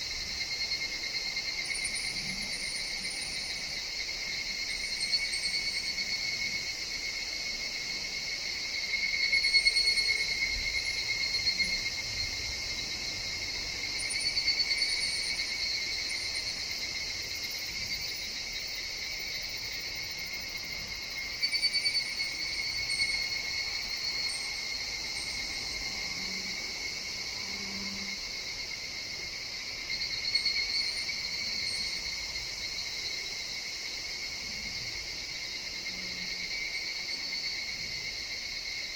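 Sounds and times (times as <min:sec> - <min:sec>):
cicadas calling: 0:00.0 - 0:38.9.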